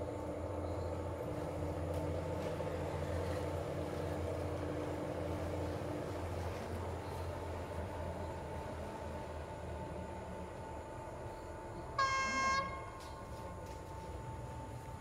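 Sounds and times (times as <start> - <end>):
diesel train engine droning: 0.0 - 15.0.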